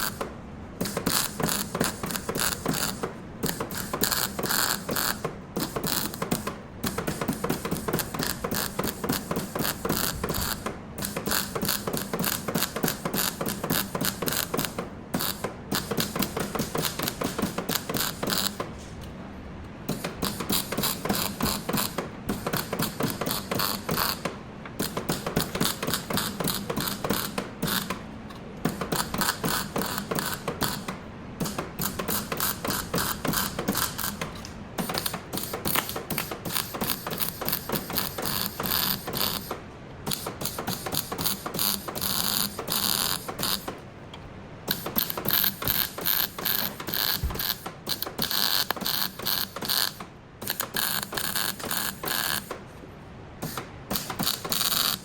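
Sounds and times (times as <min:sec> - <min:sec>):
rapid mechanical clatter: 0:00.0 - 0:18.8, 0:19.8 - 0:43.8, 0:44.6 - 0:52.6, 0:53.4 - 0:55.0.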